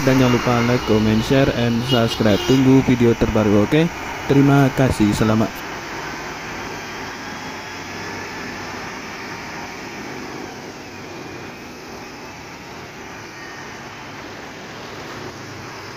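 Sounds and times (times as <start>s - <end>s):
road traffic noise: 0.0s - 15.9s.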